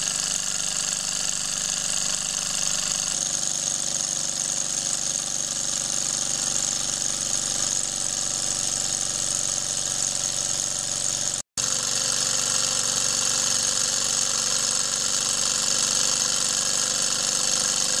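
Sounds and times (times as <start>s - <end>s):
model engine clattering: 0.0s - 18.0s.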